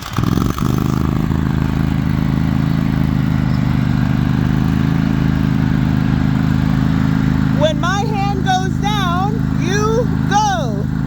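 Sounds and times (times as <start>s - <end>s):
lawn mower engines idling: 0.0s - 11.0s.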